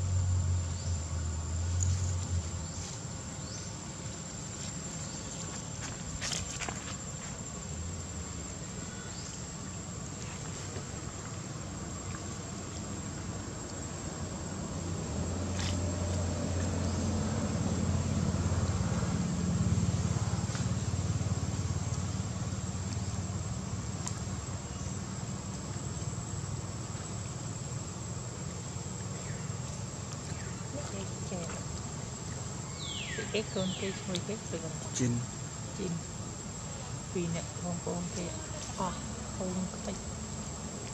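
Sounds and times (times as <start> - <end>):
vehicle engine rumble: 0.0 - 8.7, 10.1 - 40.9.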